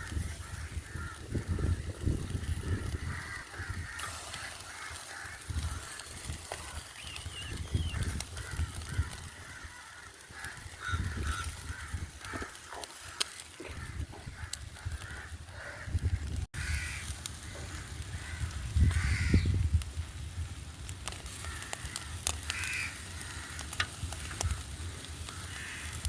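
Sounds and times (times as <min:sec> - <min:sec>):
birds calling: 0:00.0 - 0:19.6, 0:21.4 - 0:26.0.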